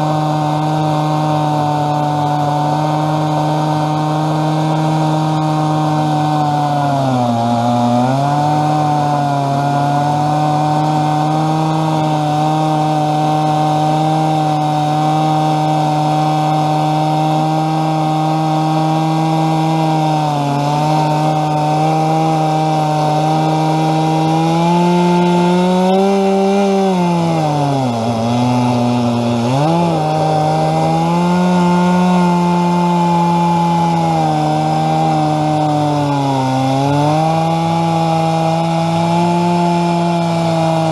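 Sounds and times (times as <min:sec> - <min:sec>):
chainsaw cutting through log: 0:00.0 - 0:40.9.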